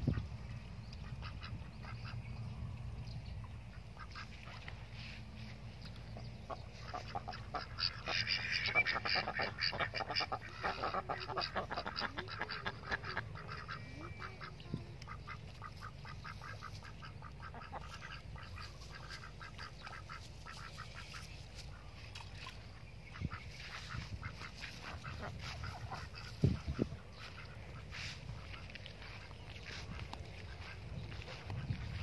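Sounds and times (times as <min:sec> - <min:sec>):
ducks quacking: 0:01.0 - 0:02.2, 0:03.7 - 0:05.5, 0:06.2 - 0:32.0.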